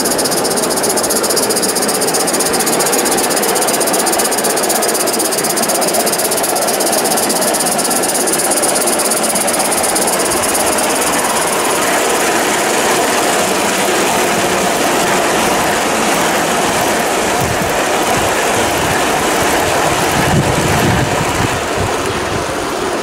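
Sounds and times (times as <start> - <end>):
steam hiss: 0.0 - 23.0
steam locomotive chuffing: 0.0 - 23.0
wagons rumbling on track: 0.0 - 23.0.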